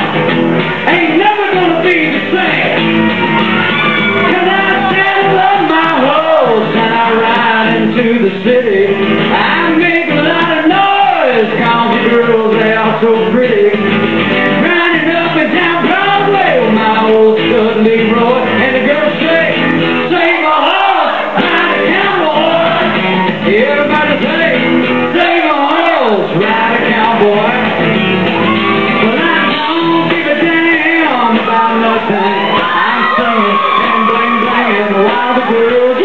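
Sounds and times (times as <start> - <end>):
strummed acoustic guitar: 0.0 - 36.0
man singing into microphone: 0.8 - 2.8, 4.0 - 13.9, 14.5 - 27.9, 28.9 - 36.0.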